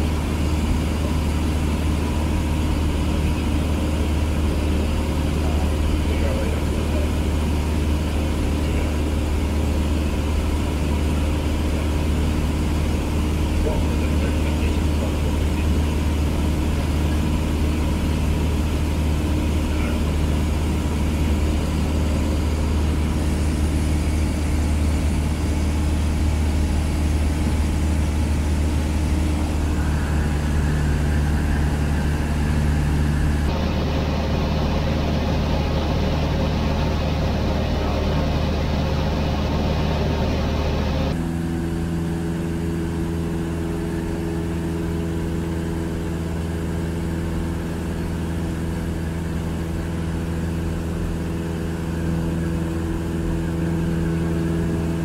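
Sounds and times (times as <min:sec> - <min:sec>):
airplane engine droning: 0:00.0 - 0:55.0.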